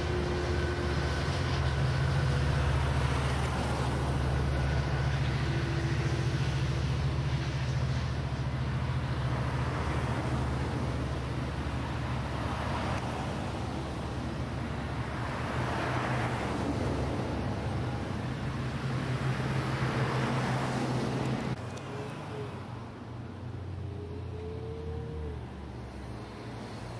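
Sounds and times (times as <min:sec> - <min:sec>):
cars swishing past: 0:00.0 - 0:22.8
train locomotive diesel drone: 0:00.0 - 0:26.9.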